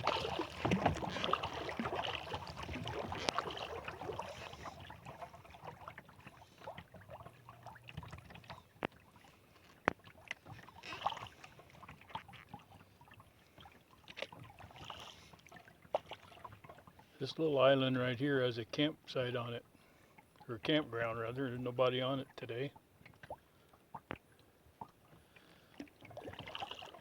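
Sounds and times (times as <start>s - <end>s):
paddle splashes and drips: 0.0s - 17.3s, 19.6s - 21.3s, 22.3s - 27.0s.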